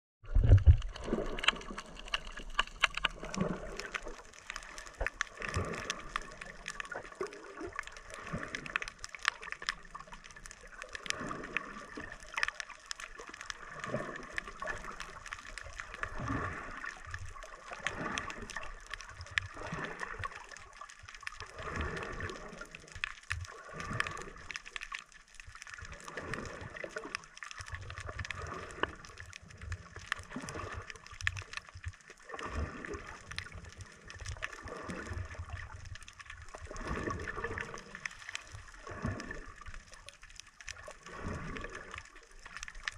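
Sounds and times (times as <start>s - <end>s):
muffled underwater gurgling: 0.2s - 24.7s, 25.8s - 42.9s
small clicks: 0.4s - 32.2s, 33.2s - 42.9s.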